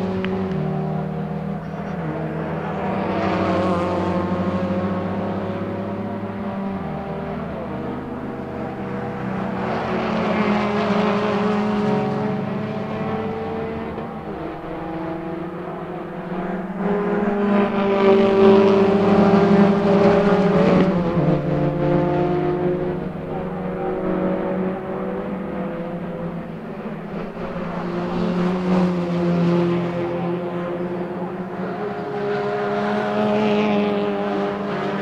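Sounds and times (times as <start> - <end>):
racing car engines: 0.0 - 35.0.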